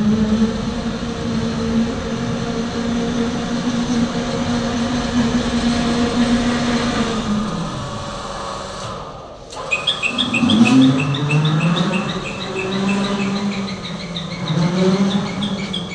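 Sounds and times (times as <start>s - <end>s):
electric truck hum: 0.0s - 15.9s.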